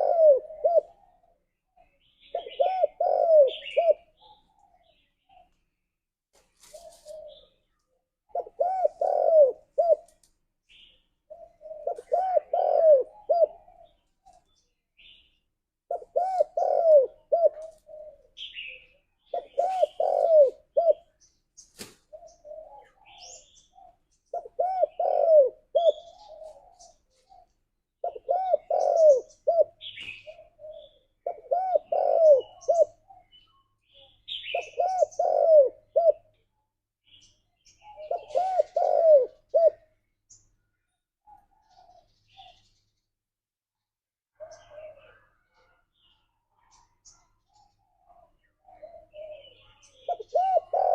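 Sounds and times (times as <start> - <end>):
dove cooing: 0.0 - 5.6, 6.6 - 15.2, 15.9 - 21.3, 22.0 - 36.4, 37.8 - 40.0, 41.3 - 42.8, 44.4 - 50.9
small birds chirping: 0.0 - 43.2, 43.8 - 50.9.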